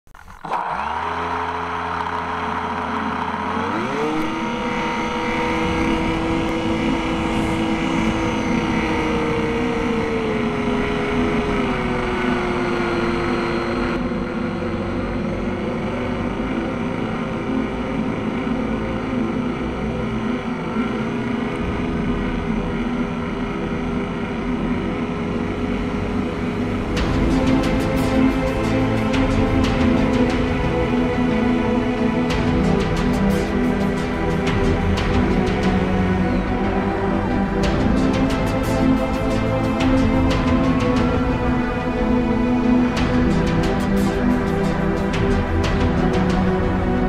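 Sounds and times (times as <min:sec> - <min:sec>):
electric motor propeller whine: 0:00.1 - 0:47.0.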